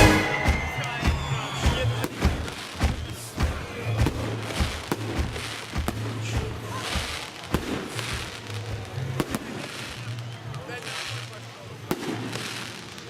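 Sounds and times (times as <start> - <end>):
firework bangs and pops: 0.0 - 13.0
firework crackling hiss: 0.0 - 13.0.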